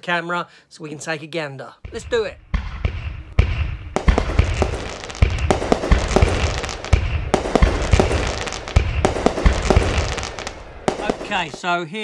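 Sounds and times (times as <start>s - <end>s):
fireworks bangs: 1.9s - 11.7s
fireworks crackling: 1.9s - 11.8s.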